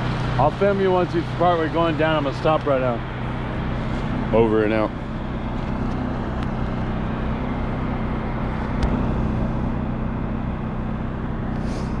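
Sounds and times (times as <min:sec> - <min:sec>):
pressure washer engine hum: 0:00.0 - 0:12.0.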